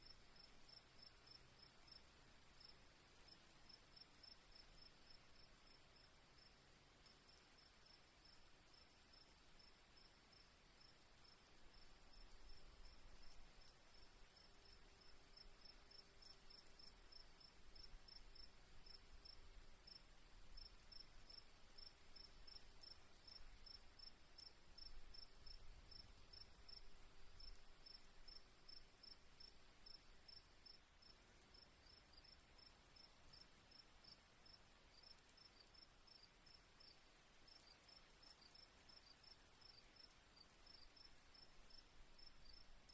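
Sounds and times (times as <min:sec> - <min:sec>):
crickets chirping faintly: 0:00.0 - 0:42.9
high steady insect trill: 0:00.0 - 0:42.9.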